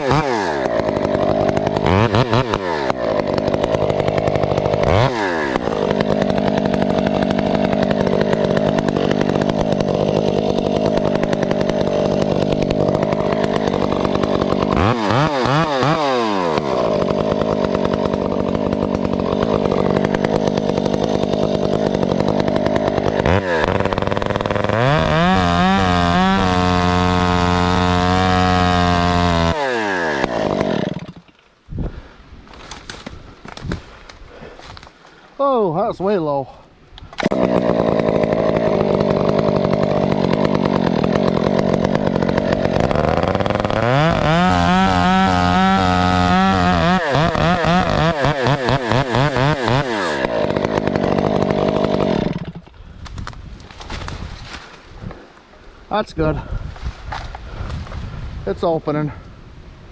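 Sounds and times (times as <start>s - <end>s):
chainsaw cutting through a tree: 0.0s - 35.2s, 37.0s - 59.3s.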